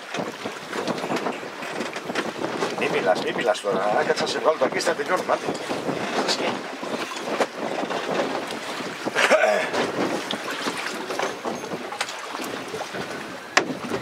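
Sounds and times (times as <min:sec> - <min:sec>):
water lapping against boat hull: 0:00.0 - 0:14.0
wind on microphone: 0:00.0 - 0:14.0.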